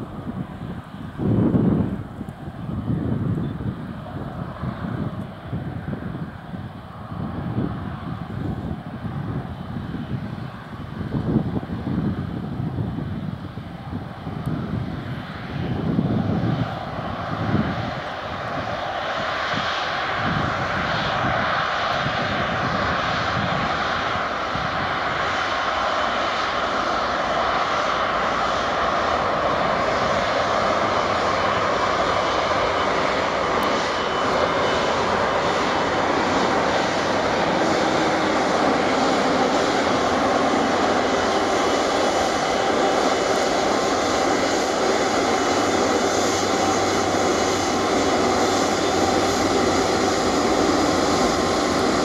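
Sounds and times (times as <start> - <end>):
jet engines taxiing: 0.0 - 52.0.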